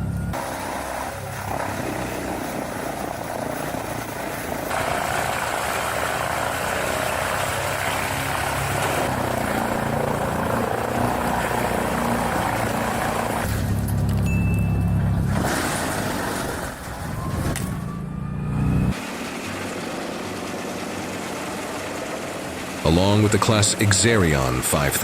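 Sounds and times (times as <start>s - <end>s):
wood chipper running: 0.0s - 25.0s.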